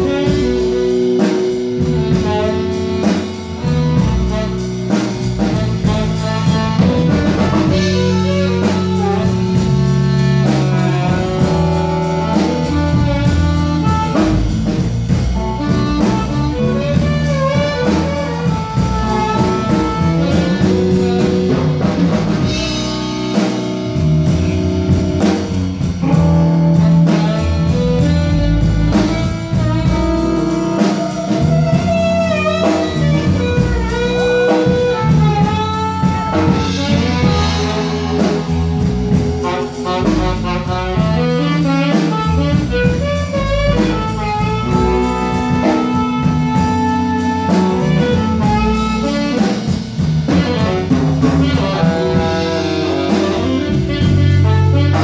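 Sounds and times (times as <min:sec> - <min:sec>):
live blues band: 0:00.0 - 0:55.0
steady drum beat: 0:00.0 - 0:55.0.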